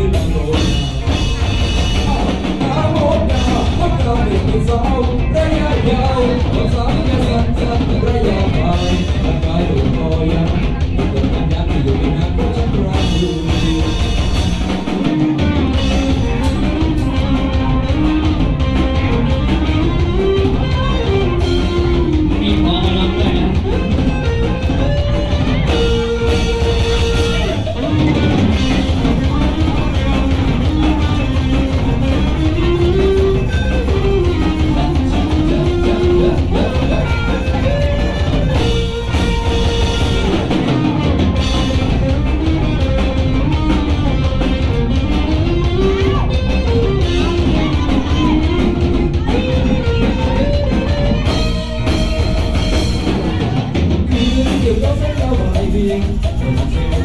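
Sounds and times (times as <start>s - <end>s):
bass and drums: 0.0s - 57.0s
electric guitar melody: 0.0s - 57.0s.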